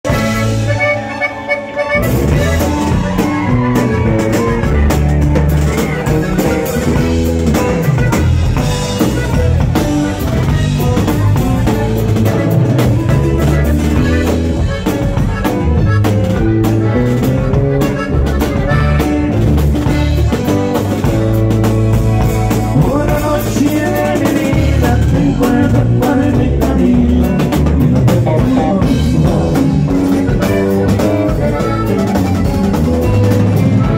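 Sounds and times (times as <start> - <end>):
drum kit: 0.0 - 33.9
electric bass: 0.0 - 33.9
button accordion: 0.1 - 26.5, 28.2 - 33.9.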